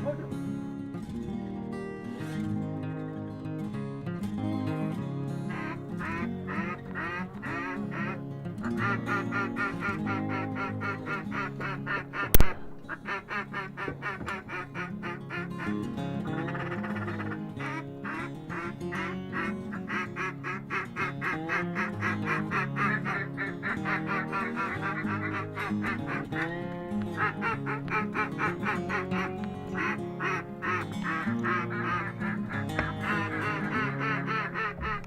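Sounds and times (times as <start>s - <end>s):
duck quacking: 0.0s - 0.4s, 5.4s - 35.0s
background music: 0.0s - 35.0s.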